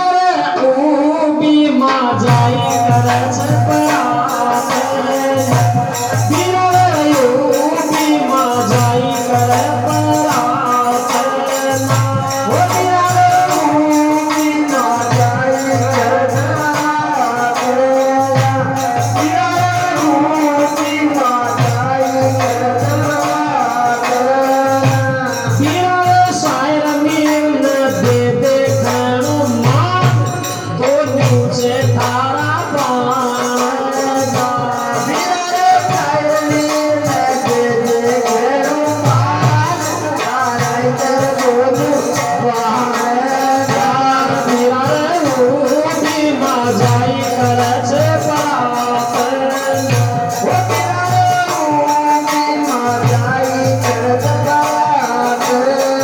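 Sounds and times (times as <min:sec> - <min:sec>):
rattling hand percussion: 0:00.0 - 0:56.0.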